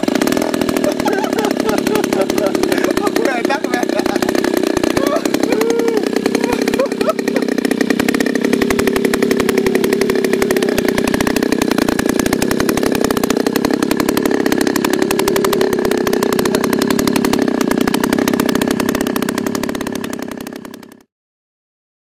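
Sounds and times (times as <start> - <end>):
two-stroke model engine buzzing: 0.0 - 21.1.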